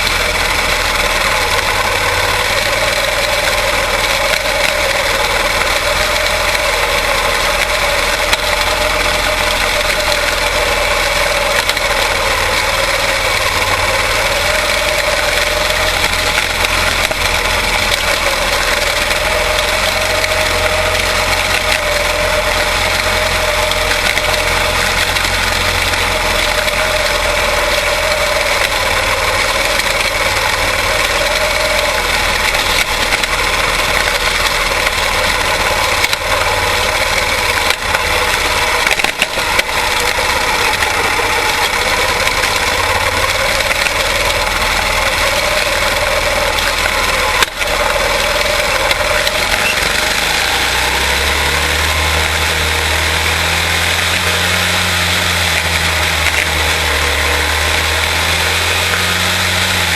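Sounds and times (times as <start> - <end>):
deeper engine drone: 0.0 - 59.9
race car engines running: 0.0 - 59.9.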